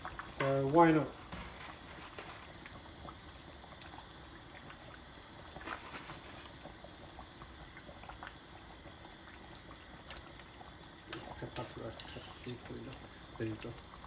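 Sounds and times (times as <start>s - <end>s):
curry bubbling in a pot: 0.0s - 14.0s.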